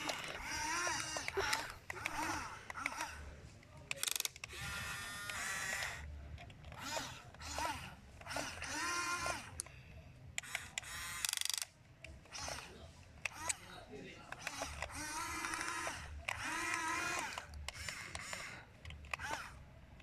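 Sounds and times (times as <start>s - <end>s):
rapid gear clicking: 0.0s - 9.7s, 10.4s - 19.6s
small electric motors whining: 0.0s - 20.0s.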